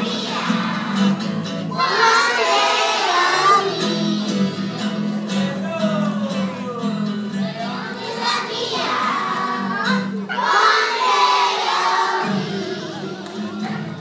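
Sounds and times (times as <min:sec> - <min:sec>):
children singing together: 0:00.0 - 0:05.3, 0:07.4 - 0:14.0
musical accompaniment: 0:00.0 - 0:14.0.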